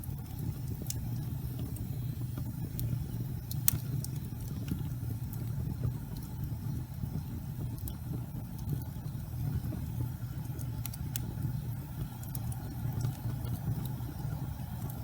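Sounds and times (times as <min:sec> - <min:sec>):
fire crackling and popping: 0:00.0 - 0:15.0
low rumble of flame: 0:00.0 - 0:15.0.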